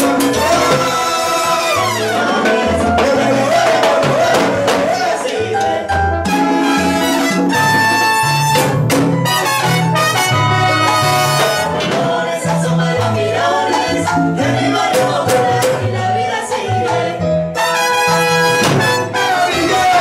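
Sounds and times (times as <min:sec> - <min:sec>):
bouncing bass line: 0:00.0 - 0:17.5
timbale cowbell and drum percussion: 0:00.0 - 0:17.8.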